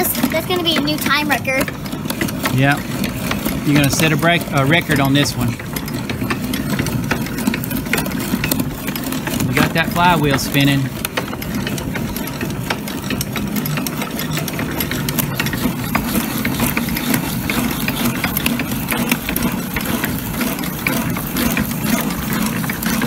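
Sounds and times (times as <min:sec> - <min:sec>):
hand-cranked drill gears clattering: 0:00.0 - 0:23.0.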